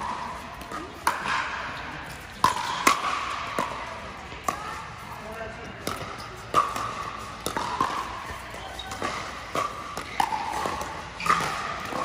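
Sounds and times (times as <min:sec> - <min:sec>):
paddles hitting plastic ball: 0:00.0 - 0:04.8, 0:05.7 - 0:12.0.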